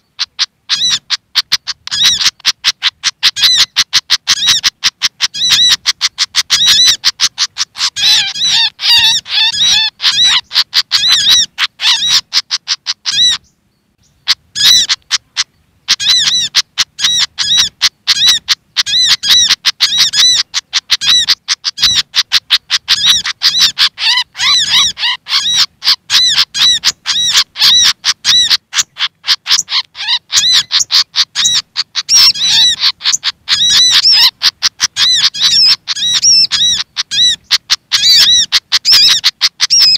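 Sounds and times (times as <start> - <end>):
rapid bird chirping and chattering: 0.0 - 39.9.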